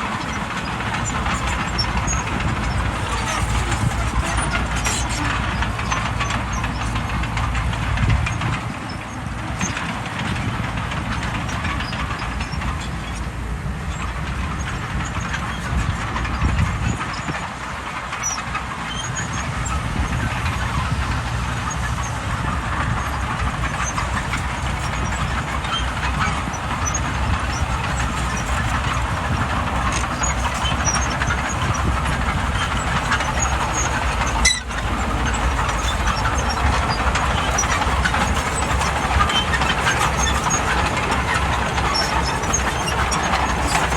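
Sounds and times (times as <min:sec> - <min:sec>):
diesel engine running: 0:00.0 - 0:43.9
metallic clatter of steel tracks: 0:00.0 - 0:43.9.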